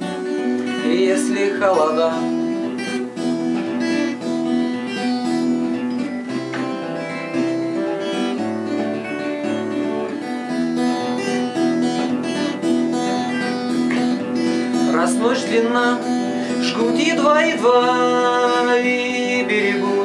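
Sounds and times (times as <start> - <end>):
fingerstyle acoustic guitar: 0.0 - 20.0.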